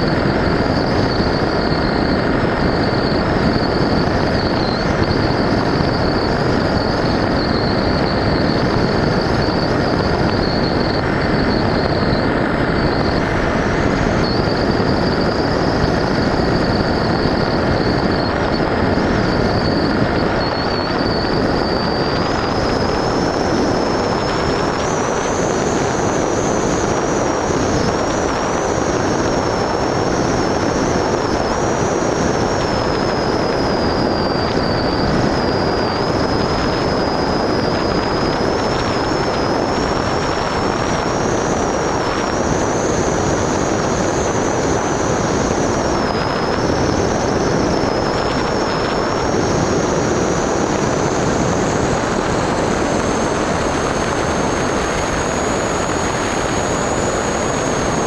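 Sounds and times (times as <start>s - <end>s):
high motor whine: 0.0s - 58.0s
wind and propeller rushing: 0.0s - 58.0s.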